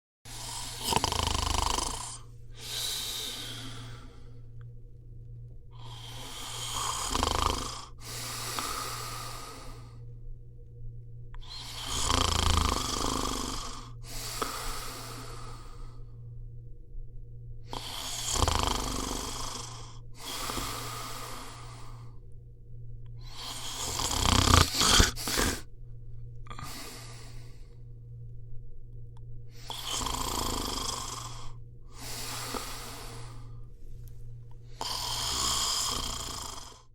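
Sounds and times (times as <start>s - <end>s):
person snoring: 0.3s - 4.7s, 5.7s - 10.2s, 11.3s - 16.4s, 17.6s - 22.3s, 23.2s - 25.7s, 26.4s - 28.0s, 29.5s - 36.9s.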